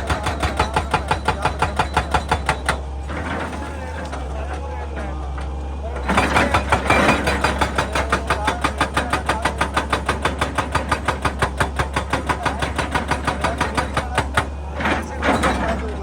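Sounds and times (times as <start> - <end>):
hydraulic breaker hammering rock: 0.0 - 4.3, 6.0 - 16.0
engine humming: 0.0 - 16.0.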